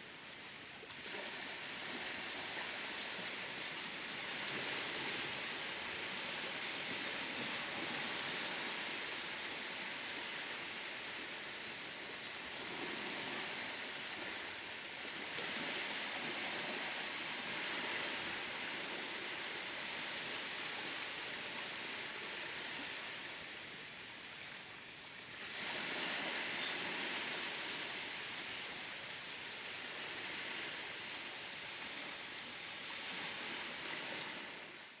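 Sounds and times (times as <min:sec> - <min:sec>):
ocean waves breaking on shore: 0:00.0 - 0:35.0.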